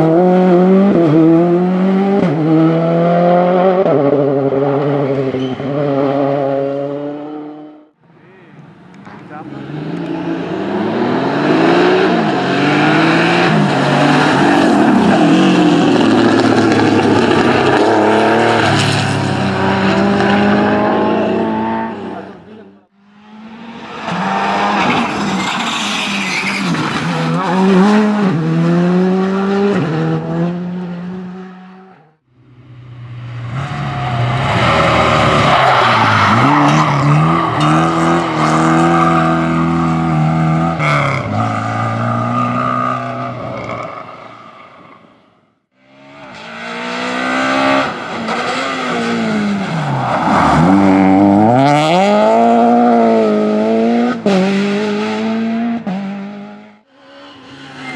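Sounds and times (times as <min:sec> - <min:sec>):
rally car engines revving: 0:00.0 - 0:08.0, 0:08.6 - 0:44.4, 0:45.8 - 0:57.9.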